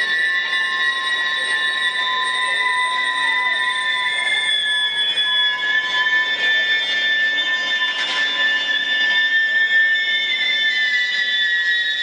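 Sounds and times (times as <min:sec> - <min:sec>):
train wheels and brakes squealing: 0:00.0 - 0:12.0.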